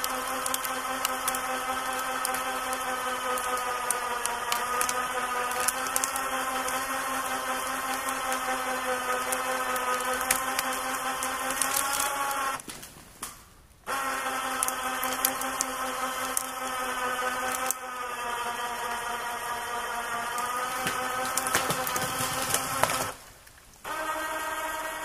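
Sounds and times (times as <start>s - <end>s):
electric winch whining: 0.0s - 12.6s, 13.8s - 25.0s.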